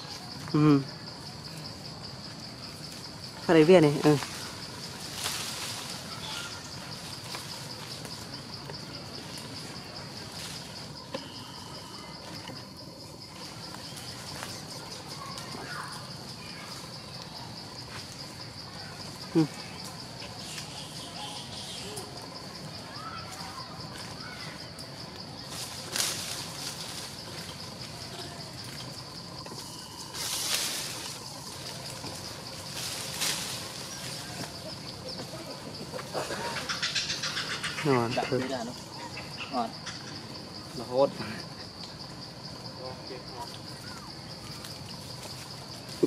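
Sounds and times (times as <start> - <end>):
insects trilling: 0.0 - 46.0
leaves rustling: 0.0 - 46.0
steady outdoor hiss: 0.0 - 46.0.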